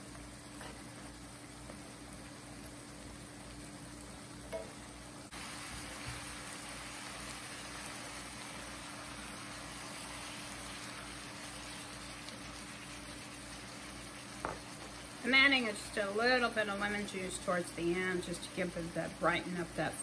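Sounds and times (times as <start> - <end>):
food simmering in a skillet: 0.0 - 20.0.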